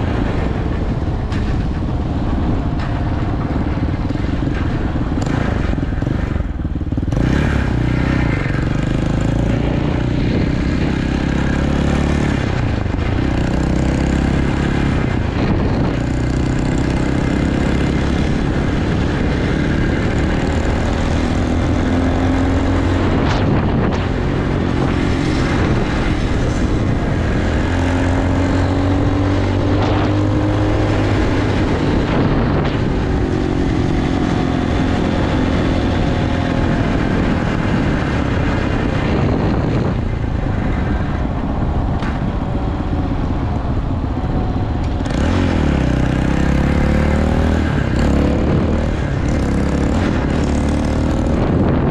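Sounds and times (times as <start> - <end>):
dirt bike engine accelerating: 0.0 - 51.9.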